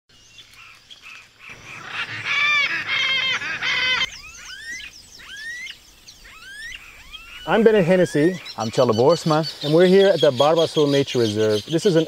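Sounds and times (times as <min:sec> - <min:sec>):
ducks calling: 0:00.6 - 0:12.0.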